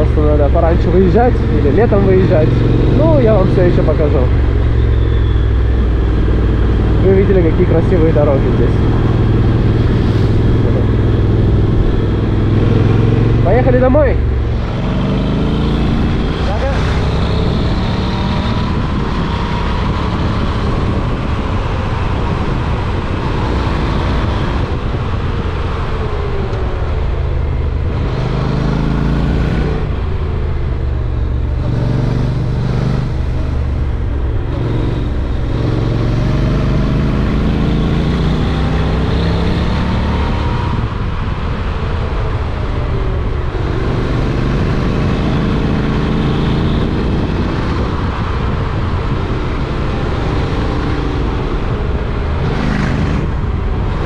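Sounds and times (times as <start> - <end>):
heavy wind noise: 0.0 - 54.0
motorcycle engine accelerating: 0.0 - 54.0.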